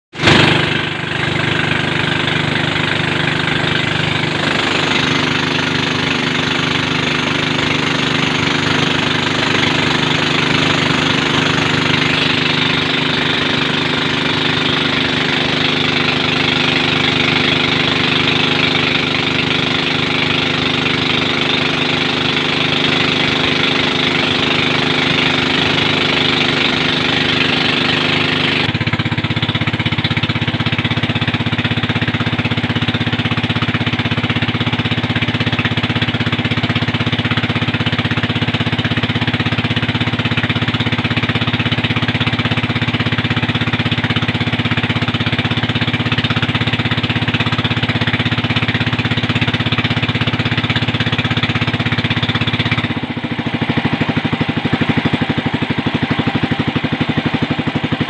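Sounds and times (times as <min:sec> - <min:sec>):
motorboat engine running: 0:00.1 - 0:58.0
water rushing along hull: 0:00.1 - 0:58.0.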